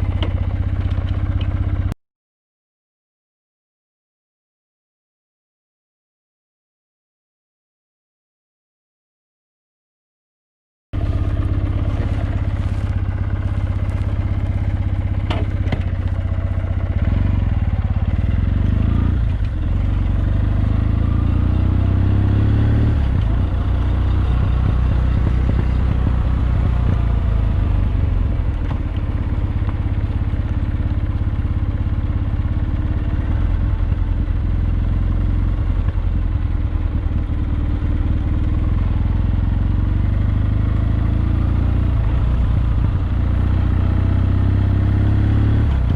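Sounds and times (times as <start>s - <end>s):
motorcycle engine running: 0.0s - 2.0s, 11.0s - 45.9s.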